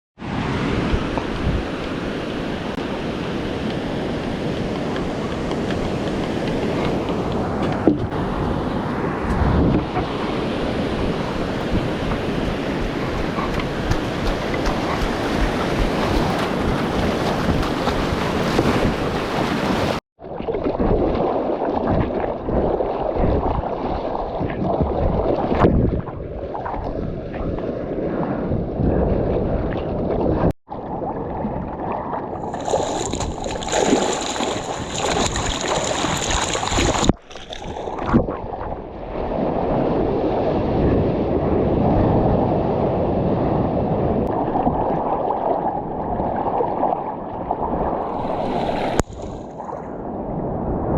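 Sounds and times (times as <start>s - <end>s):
surf and rushing water: 0.2s - 50.9s
wind noise on microphone: 0.2s - 50.9s.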